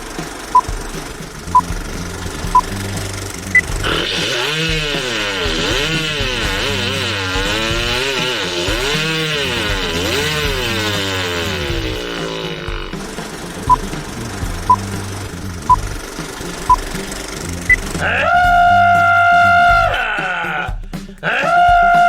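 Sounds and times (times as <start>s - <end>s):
steady low beat: 0.0s - 20.1s
person imitating revving motor: 1.4s - 22.0s.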